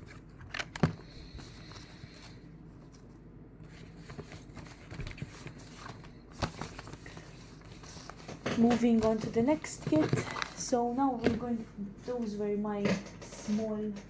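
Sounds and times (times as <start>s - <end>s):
rustling and handling: 0.0s - 14.0s.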